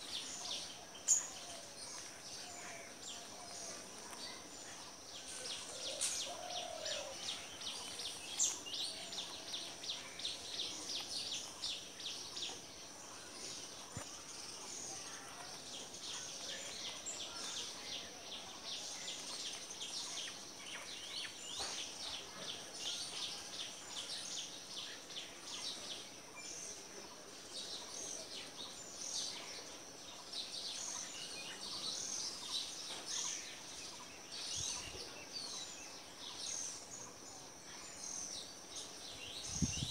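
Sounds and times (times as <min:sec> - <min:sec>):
outdoor background noise: 0:00.0 - 0:39.9
small birds chirping: 0:00.0 - 0:39.9.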